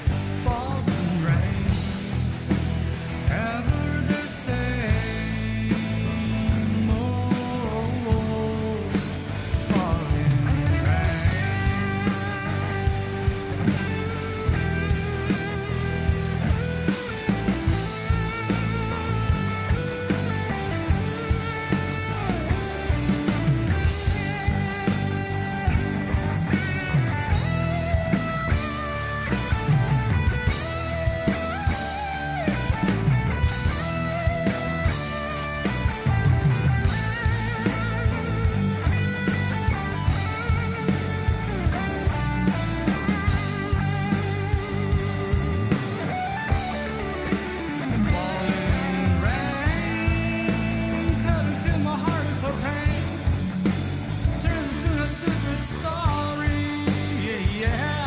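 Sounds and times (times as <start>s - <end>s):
drum kit and bass: 0.0s - 58.0s
lead guitar bending notes: 0.0s - 58.0s.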